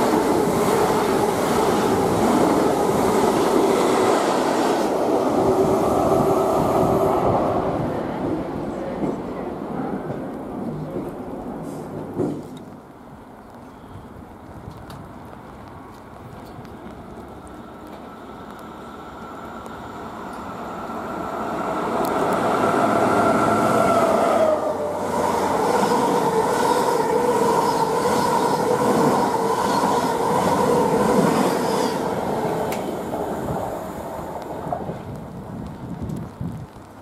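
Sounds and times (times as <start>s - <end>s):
electric train passing at speed: 0.0s - 12.6s, 14.8s - 36.0s
wheels rushing on rail: 0.0s - 12.8s, 14.4s - 37.0s.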